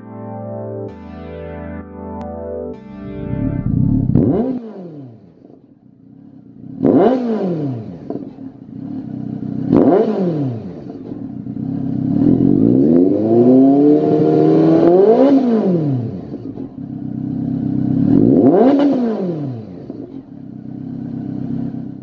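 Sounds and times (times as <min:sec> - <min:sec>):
motorcycle engine revving: 0:03.1 - 0:22.0.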